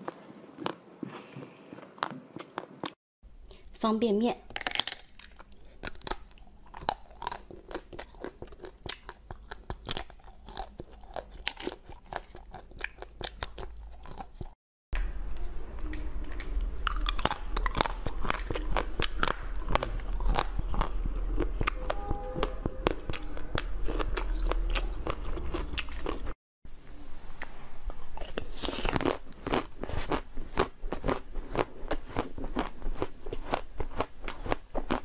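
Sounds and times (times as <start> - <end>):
crunching and chewing candy: 4.5 - 14.6, 15.7 - 26.4, 27.4 - 35.0.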